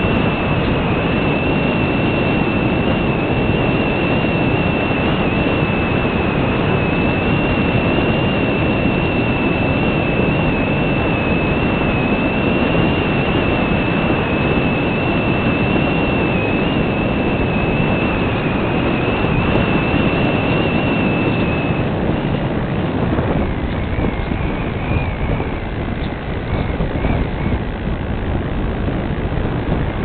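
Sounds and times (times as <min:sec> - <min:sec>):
high electric motor whine: 0:00.0 - 0:30.0
wind and propeller rush: 0:00.0 - 0:30.0.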